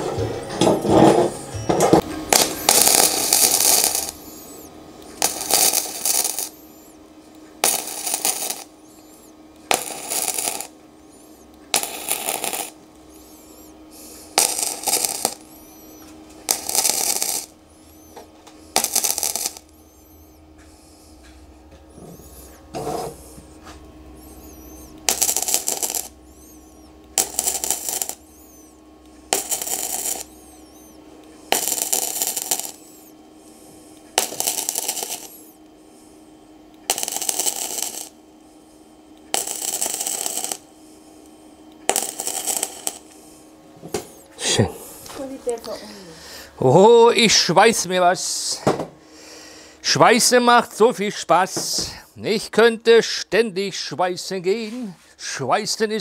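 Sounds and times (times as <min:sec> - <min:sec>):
welding arc crackling: 0:00.6 - 0:48.0.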